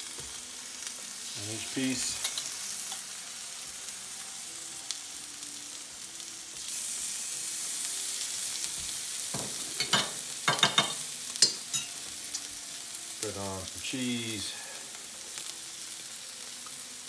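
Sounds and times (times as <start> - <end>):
chicken sizzling on baking sheet: 0.0 - 17.0.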